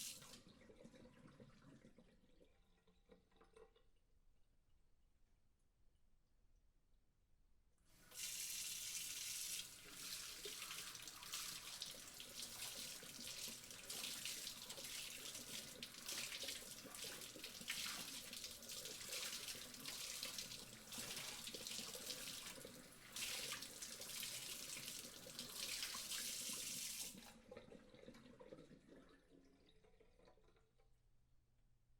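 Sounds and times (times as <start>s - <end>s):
tap water running into sink: 0.0s - 3.8s, 8.0s - 30.9s
water trickling down drain: 0.0s - 3.9s, 9.2s - 31.0s.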